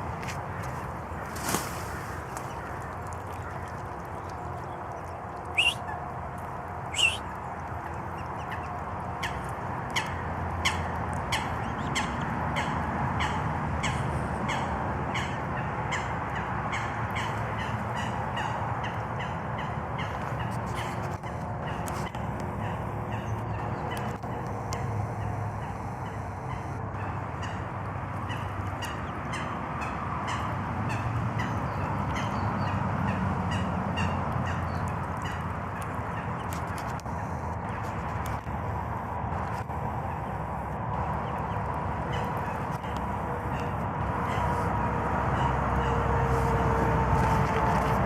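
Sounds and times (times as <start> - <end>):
birds calling: 0.2 - 38.5, 39.6 - 48.0.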